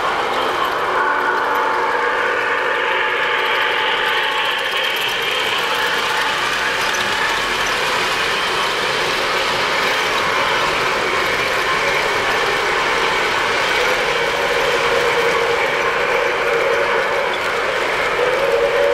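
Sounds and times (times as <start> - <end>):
model trains whirring and rattling: 0.0 - 18.9.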